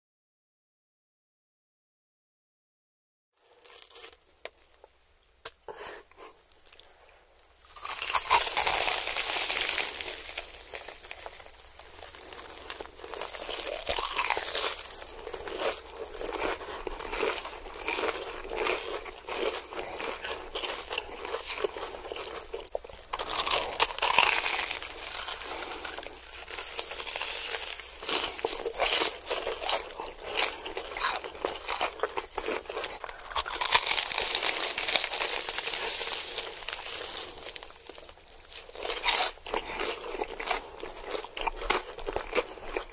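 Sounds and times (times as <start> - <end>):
crunching and chewing: 3.4 - 42.9.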